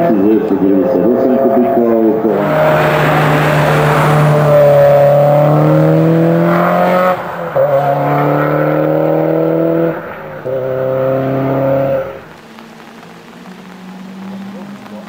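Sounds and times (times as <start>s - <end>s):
rally car engine accelerating: 0.0s - 15.0s
gear upshifts: 0.3s - 12.4s.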